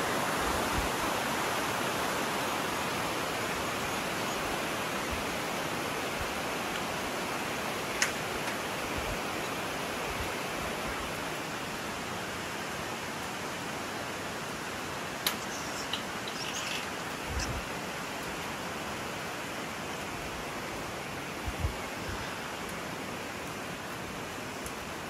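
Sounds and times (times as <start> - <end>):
rushing rainforest ambience: 0.0 - 25.0.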